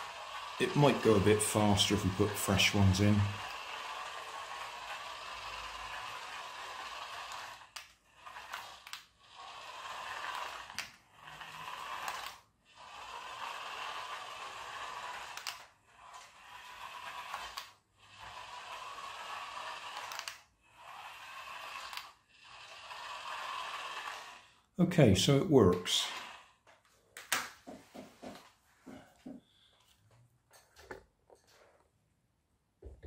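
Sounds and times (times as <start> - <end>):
toy car motor whirring: 0.0 - 27.6.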